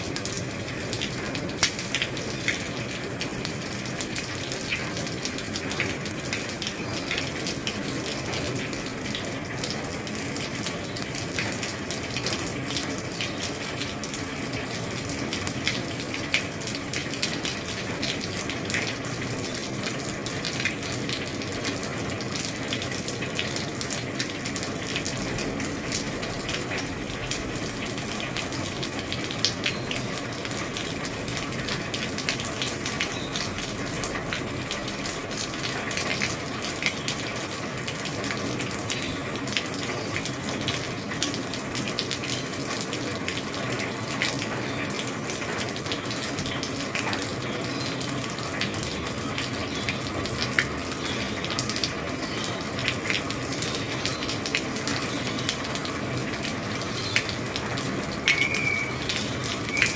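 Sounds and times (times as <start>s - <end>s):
heavy rain on a roof: 0.0s - 59.9s
rain drops ticking: 0.0s - 59.9s.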